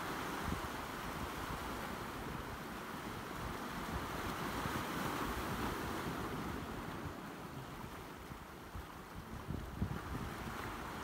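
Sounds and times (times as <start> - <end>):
waves breaking over rocks: 0.0 - 11.0
wind rumble on microphone: 0.0 - 11.0.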